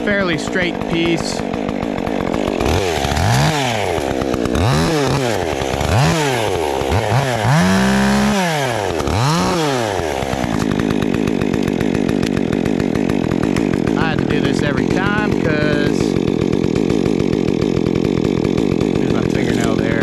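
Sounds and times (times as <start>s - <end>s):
chainsaw revving and idling: 0.0s - 20.0s.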